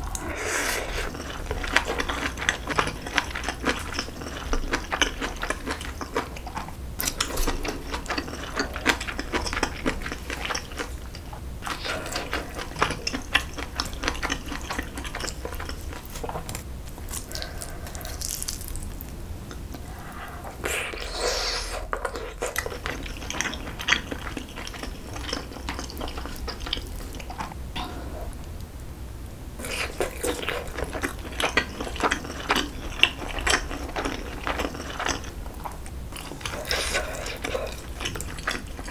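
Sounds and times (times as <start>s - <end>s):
wet chewing and mouth smacking: 0.0s - 28.6s, 29.6s - 38.9s.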